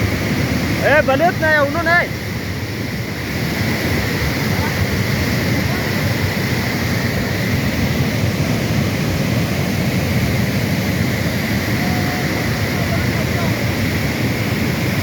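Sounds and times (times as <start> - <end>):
flood water rushing: 0.0 - 15.0.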